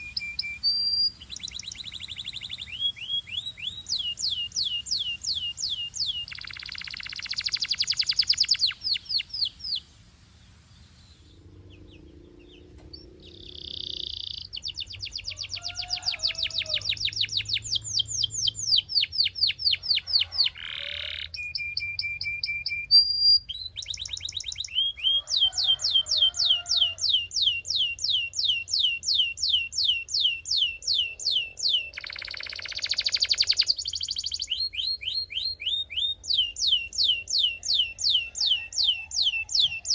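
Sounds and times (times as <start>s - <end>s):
canary singing: 0.0s - 10.0s, 10.8s - 39.9s.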